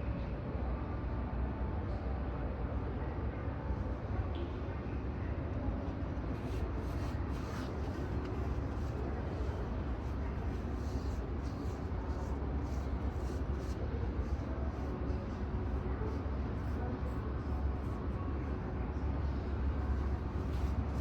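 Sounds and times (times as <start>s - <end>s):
low rumble of aircraft and machinery: 0.0s - 21.0s.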